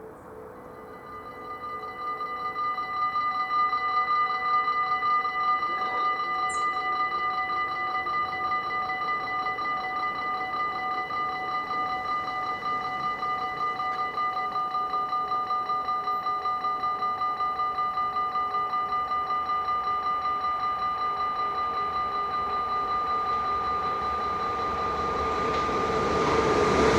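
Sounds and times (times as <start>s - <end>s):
level crossing warning bell: 0.0s - 26.9s.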